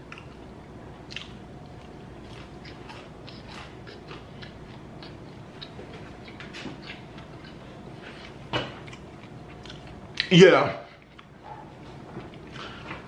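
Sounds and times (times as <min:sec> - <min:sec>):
person chewing crunchy food: 0:00.0 - 0:10.3, 0:12.0 - 0:13.0.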